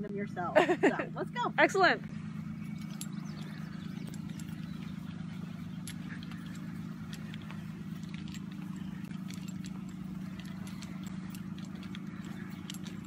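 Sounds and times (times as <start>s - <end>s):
distant road traffic drone: 0.0s - 13.0s.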